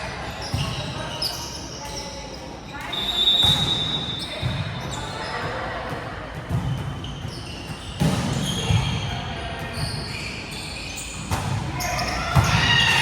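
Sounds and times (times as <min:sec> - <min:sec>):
shoe squeaks: 0:00.0 - 0:05.7, 0:06.6 - 0:13.0.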